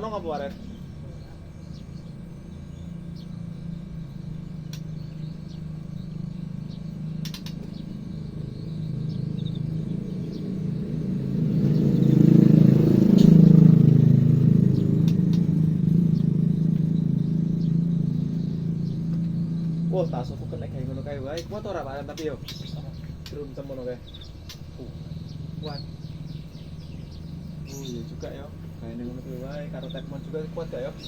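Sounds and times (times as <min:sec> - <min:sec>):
faint bird chirps: 0:00.0 - 0:31.0
vehicle engine running: 0:00.0 - 0:31.0.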